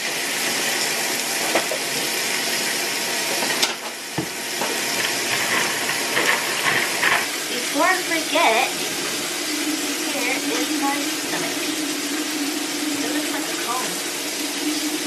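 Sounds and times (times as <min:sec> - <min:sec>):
water pouring into a plastic cup: 0:00.0 - 0:15.0.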